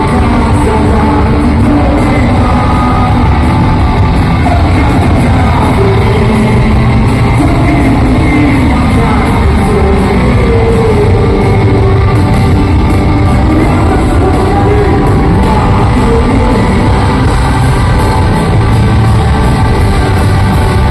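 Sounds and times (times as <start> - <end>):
crowd shouting and singing along: 0.0 - 20.9
lead voice singing: 0.0 - 20.9
rock band playing loudly: 0.0 - 20.9.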